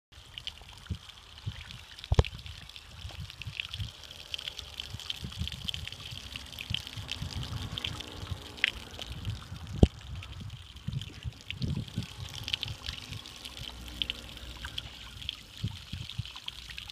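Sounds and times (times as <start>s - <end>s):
water trickling and splashing: 0.1s - 16.9s.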